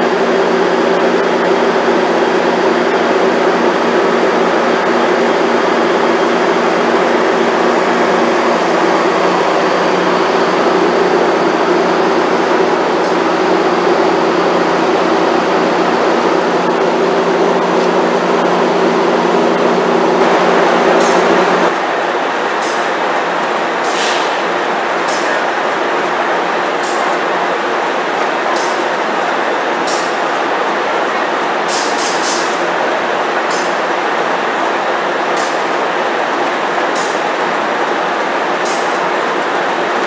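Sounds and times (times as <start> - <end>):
diesel locomotive drone: 0.0 - 40.0
train coaches rolling: 0.0 - 40.0.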